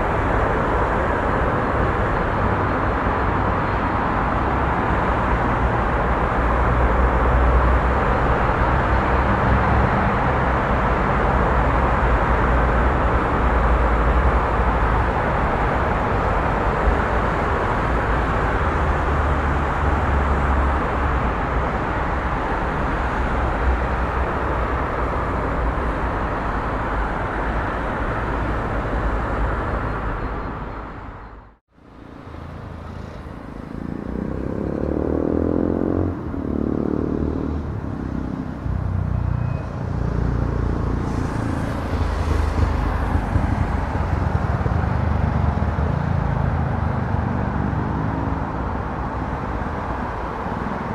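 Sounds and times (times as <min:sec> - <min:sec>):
vehicle noise: 0:00.0 - 0:50.9.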